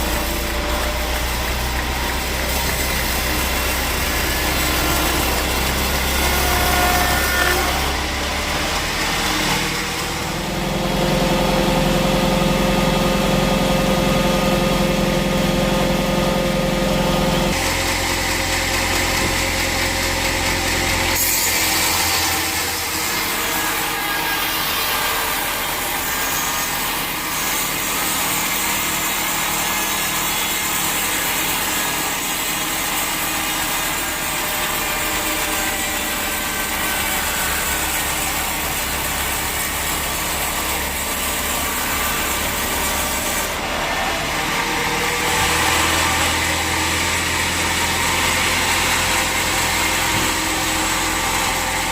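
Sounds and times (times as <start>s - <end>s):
sawmill motor hum: 0.0s - 51.9s.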